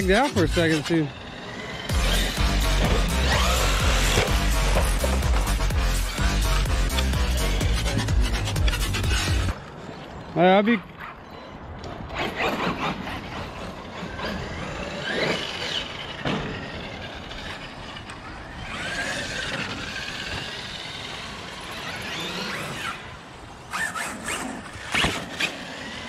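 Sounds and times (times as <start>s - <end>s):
electric rc truck motors whining: 0.0s - 10.3s, 11.2s - 26.0s.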